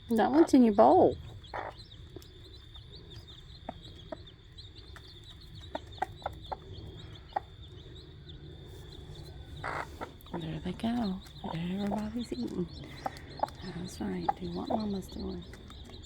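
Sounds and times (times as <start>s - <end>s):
chicks peeping: 0.0s - 16.0s
hen clucking: 0.1s - 16.0s.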